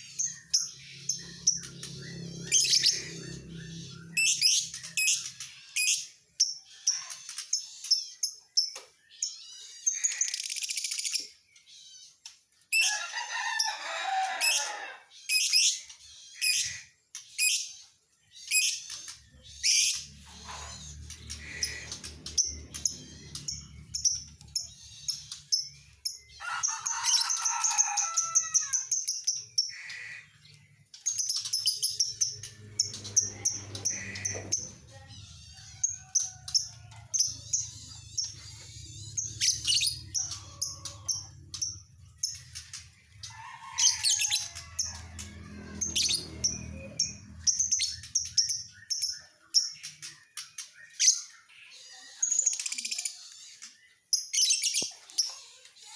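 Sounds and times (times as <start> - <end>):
lovebird chirping and trilling: 0.0 - 12.1, 15.3 - 30.2, 30.9 - 50.0, 50.8 - 55.4.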